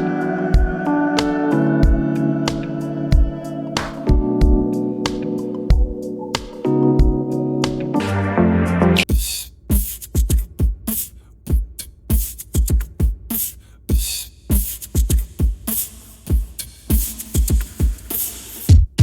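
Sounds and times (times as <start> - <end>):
drum beat: 0.0 - 8.0, 9.1 - 19.0.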